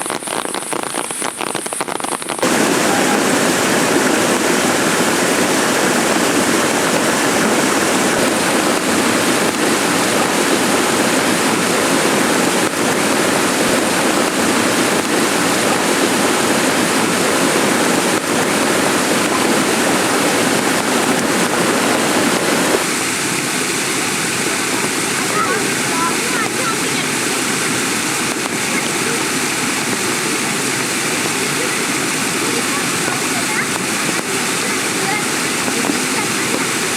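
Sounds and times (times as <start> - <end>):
heavy rain falling: 0.0 - 36.9
sharp raindrop hits: 0.0 - 36.9.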